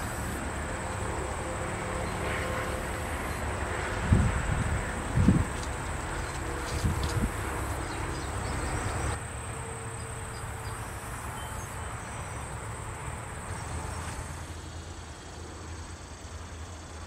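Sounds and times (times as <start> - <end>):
high insect trill: 0.0 - 17.0.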